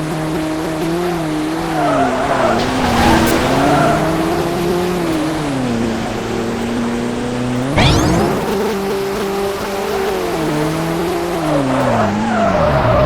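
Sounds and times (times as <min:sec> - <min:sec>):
car engine droning: 0:00.0 - 0:13.0
tyres skidding: 0:00.0 - 0:13.0.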